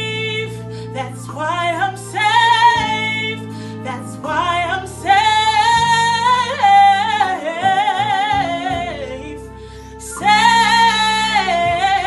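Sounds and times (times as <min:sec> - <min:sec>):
solo voice singing gospel: 0:00.0 - 0:12.0
sustained instrumental chords: 0:00.0 - 0:12.0.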